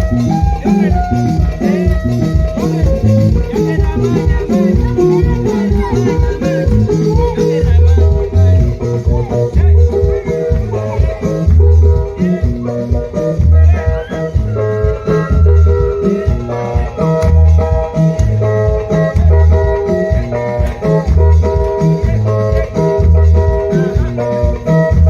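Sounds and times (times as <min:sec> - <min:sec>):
bass beat: 0:00.0 - 0:25.0
plucked guitar: 0:00.0 - 0:25.0
shaker: 0:00.0 - 0:25.0
upbeat music: 0:00.0 - 0:25.0.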